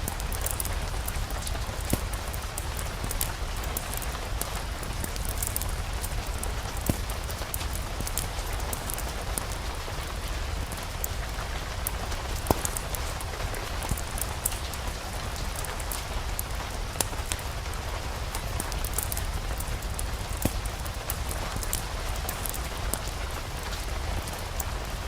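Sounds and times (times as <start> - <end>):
sharp ticks of raindrops: 0.0 - 25.0
steady rain falling: 0.0 - 25.0.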